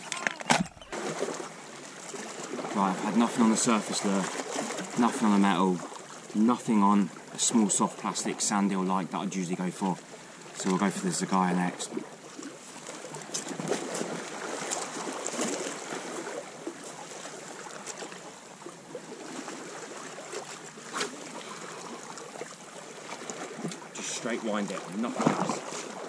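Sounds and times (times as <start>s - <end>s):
water lapping against rocks: 0.0s - 7.7s, 9.4s - 26.0s.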